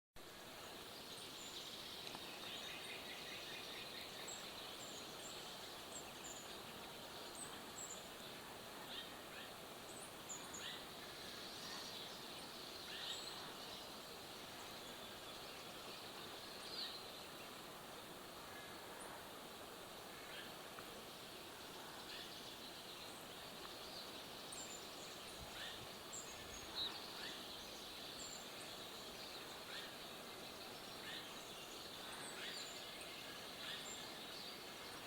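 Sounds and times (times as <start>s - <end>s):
steady background hiss: 0.2s - 35.0s.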